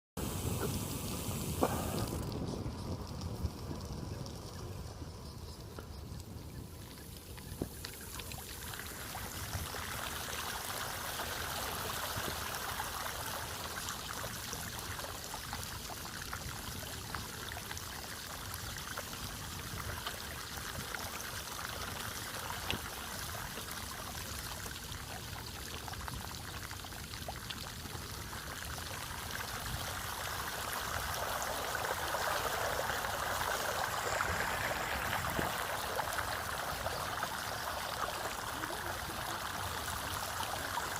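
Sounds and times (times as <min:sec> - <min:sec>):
floodwater rushing: 0:07.1 - 0:40.9.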